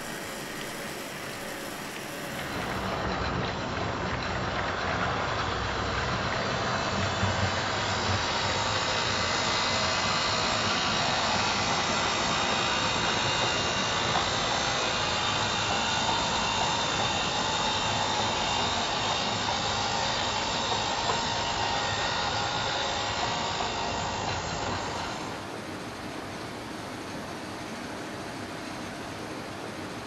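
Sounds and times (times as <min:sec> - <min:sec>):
model train rumbling on track: 0:00.0 - 0:26.2.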